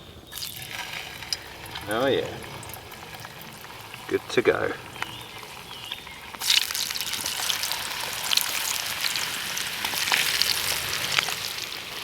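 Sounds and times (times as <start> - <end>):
oil crackling spits: 0.2 - 12.0
potato chips sizzling in oil: 0.3 - 12.0.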